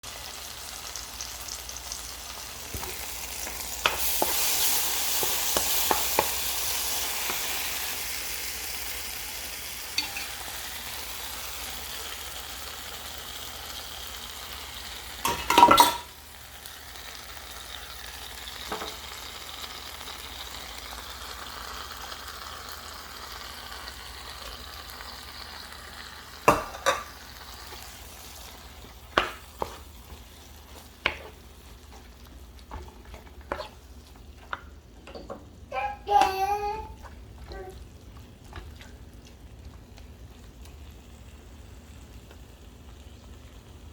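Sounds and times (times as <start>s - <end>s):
fish sizzling in a pan: 0.0s - 43.9s.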